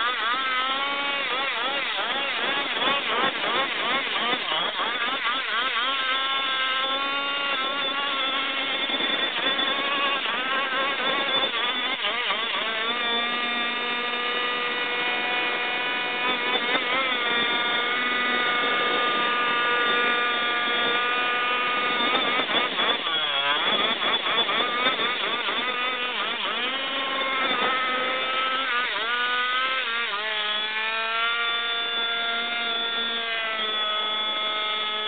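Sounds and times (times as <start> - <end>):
tire spinning on asphalt: 0.0 - 35.0
two-stroke engine revving hard: 0.0 - 35.0.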